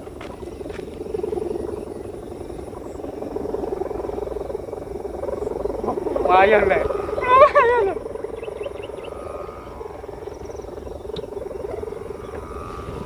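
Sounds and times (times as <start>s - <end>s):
kite hummers warbling drone: 0.0s - 13.0s
wavering tone: 0.0s - 13.0s.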